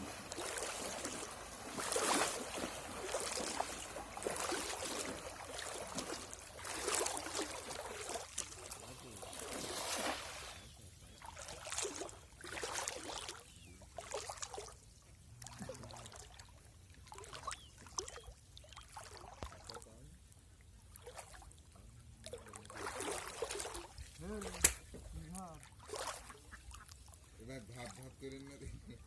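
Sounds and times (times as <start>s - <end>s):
water splashing and trickling: 0.0s - 29.0s.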